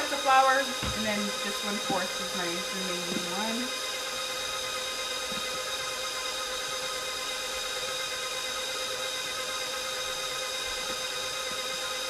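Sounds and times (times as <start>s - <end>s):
electric mixer motor whining: 0.0s - 12.0s.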